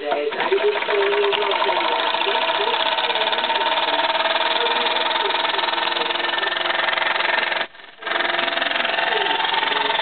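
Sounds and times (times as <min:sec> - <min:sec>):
toy steam engine running: 0:00.0 - 0:10.0.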